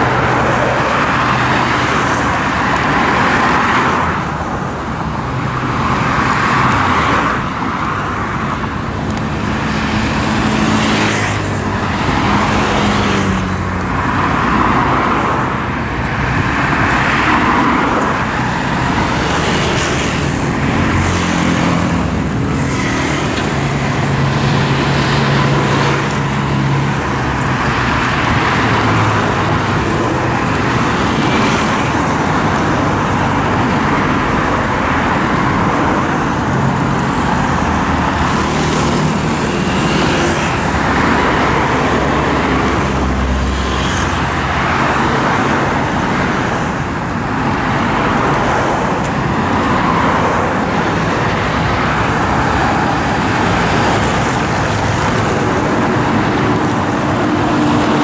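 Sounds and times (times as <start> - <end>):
cars and motorcycles passing: 0.0 - 58.0.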